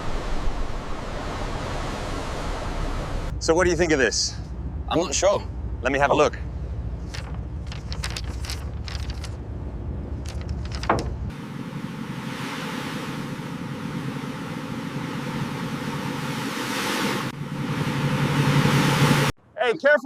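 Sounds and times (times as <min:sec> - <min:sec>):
low rumbling: 0:00.0 - 0:19.4
sea: 0:00.0 - 0:19.4
wind: 0:00.0 - 0:20.0.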